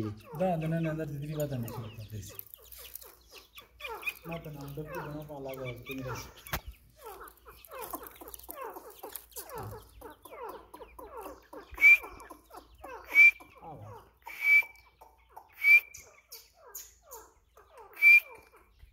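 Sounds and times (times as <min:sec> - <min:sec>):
partridges chirping: 0:00.0 - 0:18.9
loud sharp bird call: 0:01.6 - 0:18.8.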